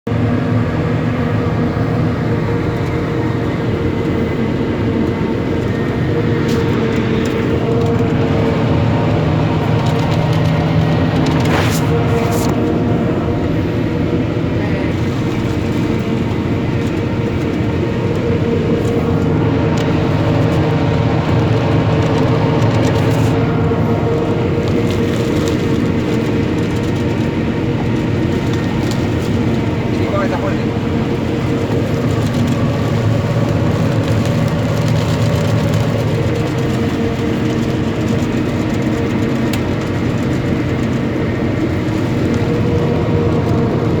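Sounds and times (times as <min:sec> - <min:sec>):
forage harvester drone and whine: 0:00.0 - 0:44.0.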